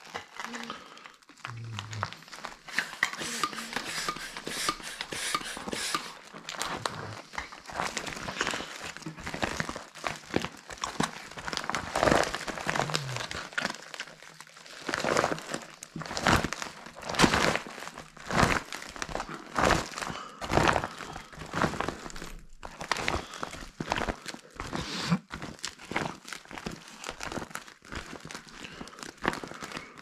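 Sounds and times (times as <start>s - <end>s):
vinyl beach ball crinkling: 0.0s - 30.0s.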